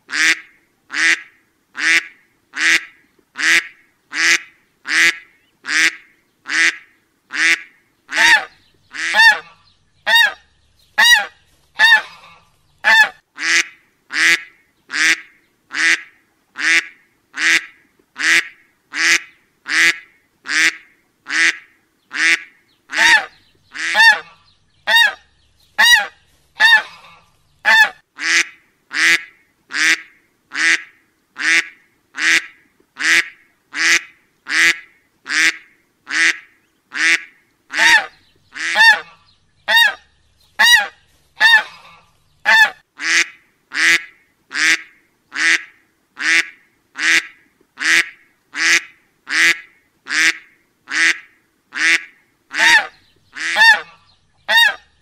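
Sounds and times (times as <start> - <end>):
duck quacking: 0.1 - 10.4, 11.0 - 25.2, 25.8 - 40.0, 40.6 - 54.9.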